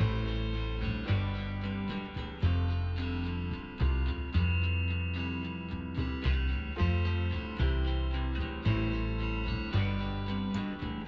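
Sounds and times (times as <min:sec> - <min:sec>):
guitar and bass music: 0:00.0 - 0:11.0.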